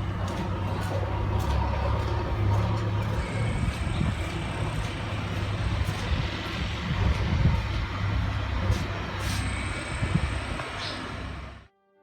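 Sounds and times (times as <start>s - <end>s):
traffic rumble: 0.0s - 11.7s.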